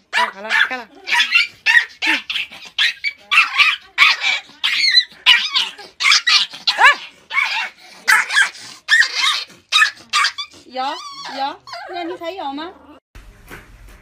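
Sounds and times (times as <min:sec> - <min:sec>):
puppy yapping: 0:00.1 - 0:12.0.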